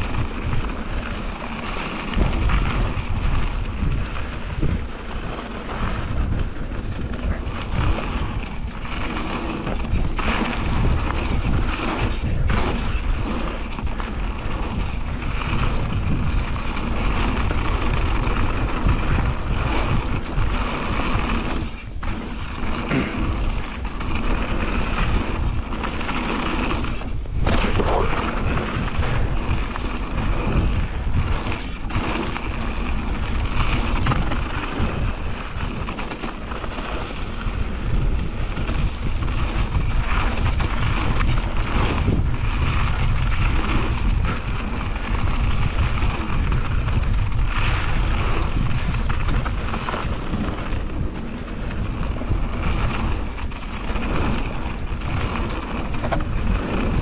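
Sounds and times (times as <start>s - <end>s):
bike rattling: 0.0s - 57.0s
knobby tyres rolling on dirt: 0.0s - 57.0s
wind buffeting microphone: 0.0s - 57.0s.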